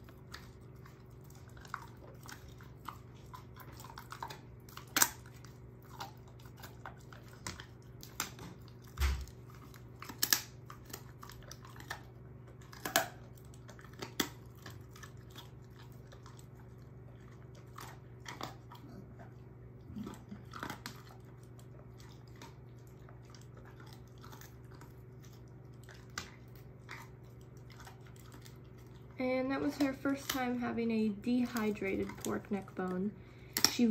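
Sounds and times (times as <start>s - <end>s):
dog crunching a bone: 0.0s - 33.9s.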